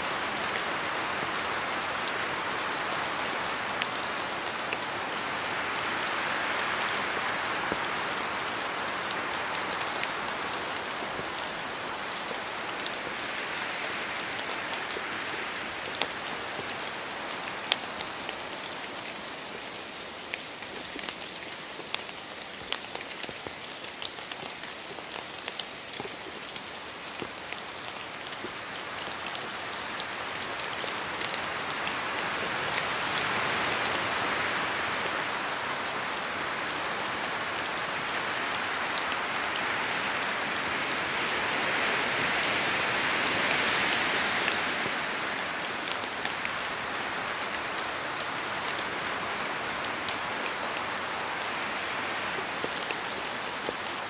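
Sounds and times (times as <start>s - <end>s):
rain hiss: 0.0s - 54.0s
raindrops ticking on leaves: 0.0s - 54.0s.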